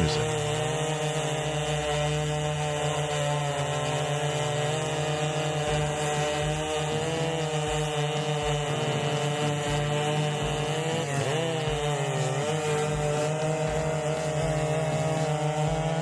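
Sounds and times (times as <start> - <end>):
chainsaws cutting logs: 0.0 - 16.0.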